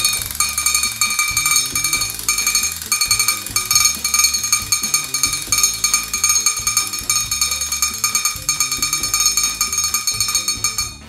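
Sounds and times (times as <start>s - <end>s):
toy drum fast taps: 0.0s - 11.0s.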